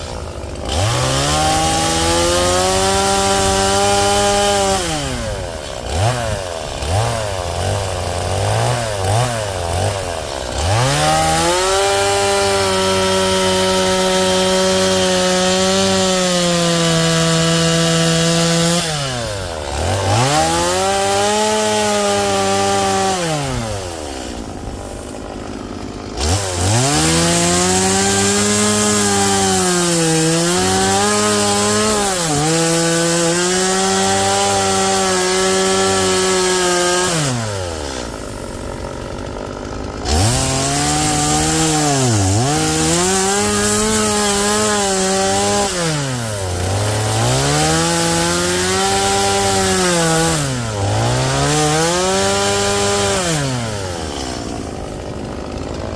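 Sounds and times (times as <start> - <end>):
angle grinder grinding wood: 0.0 - 55.9.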